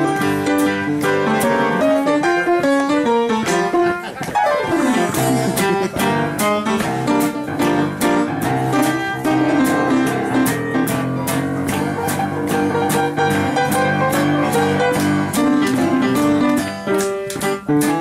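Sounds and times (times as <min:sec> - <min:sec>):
piano accompaniment: 0:00.0 - 0:18.0.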